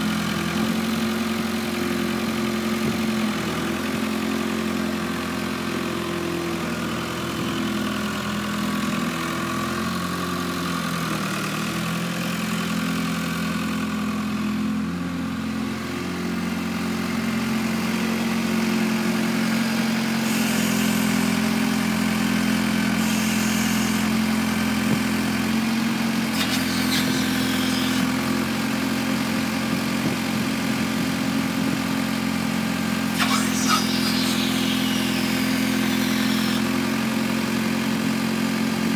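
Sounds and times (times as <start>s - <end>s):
road sweeper engine running: 0.0s - 38.9s.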